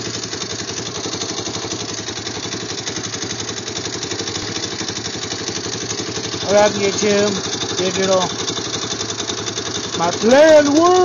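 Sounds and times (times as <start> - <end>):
quad engine idling: 0.0 - 11.0.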